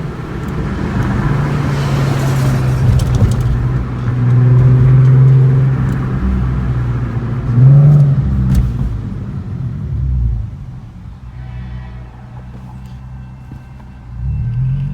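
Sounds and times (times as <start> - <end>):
car engine and exhaust pulling: 0.0 - 14.9.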